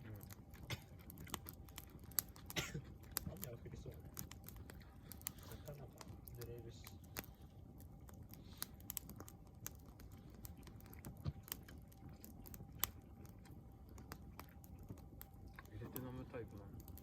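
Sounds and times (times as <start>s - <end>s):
campfire crackling and popping: 0.0s - 17.0s
low steady rumble: 0.0s - 17.0s.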